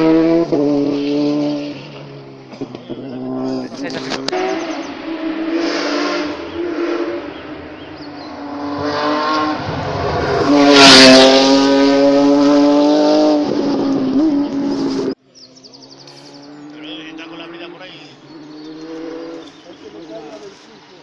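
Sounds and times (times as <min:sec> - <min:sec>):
rally car engine passing: 0:00.0 - 0:21.0.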